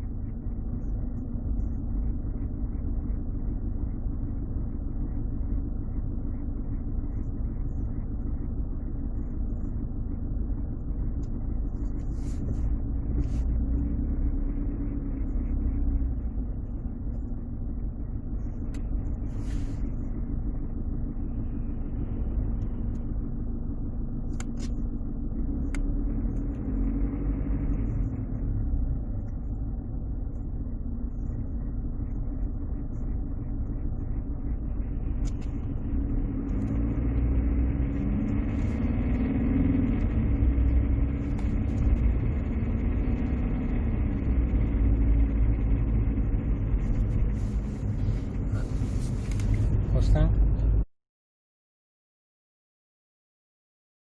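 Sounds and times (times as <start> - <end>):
diesel engine rumble in cabin: 0.0 - 50.9.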